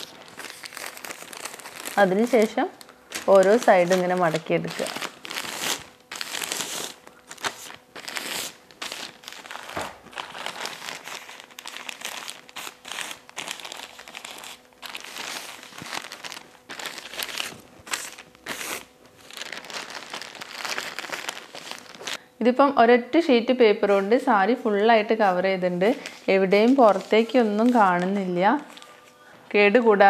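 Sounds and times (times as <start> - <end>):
newspaper crinkling and rustling: 0.0 - 22.2, 25.8 - 29.2.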